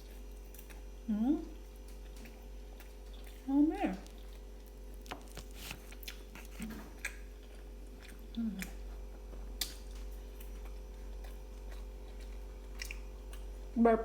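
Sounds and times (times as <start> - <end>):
person chewing: 1.6 - 13.7.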